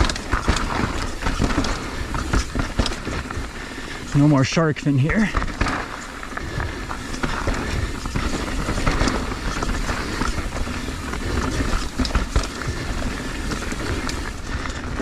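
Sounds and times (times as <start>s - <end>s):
bike clattering over bumps: 0.0s - 15.0s
tyre and wind rumble: 0.0s - 15.0s.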